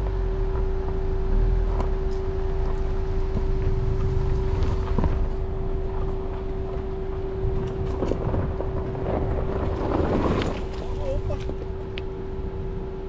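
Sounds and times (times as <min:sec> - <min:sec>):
vehicle low rumble: 0:00.0 - 0:13.0
clicks and knocks from rough ground: 0:01.7 - 0:12.2
wind buffeting microphone: 0:02.3 - 0:13.0.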